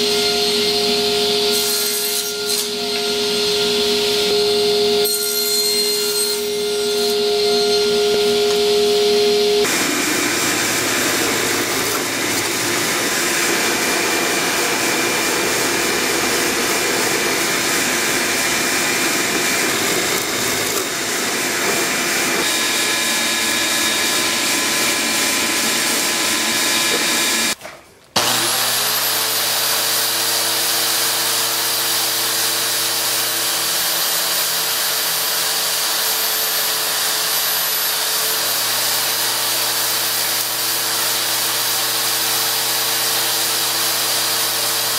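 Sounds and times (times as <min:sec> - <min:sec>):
power tool whining: 0:00.0 - 0:27.6, 0:28.2 - 0:44.9.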